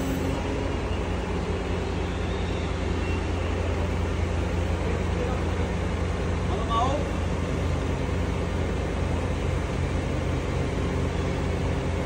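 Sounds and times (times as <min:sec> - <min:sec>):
crane diesel engine running: 0:00.0 - 0:12.0.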